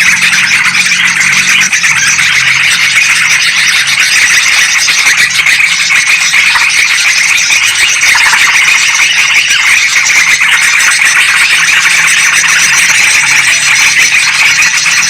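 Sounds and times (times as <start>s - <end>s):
bulbuls calling: 0.0s - 15.0s.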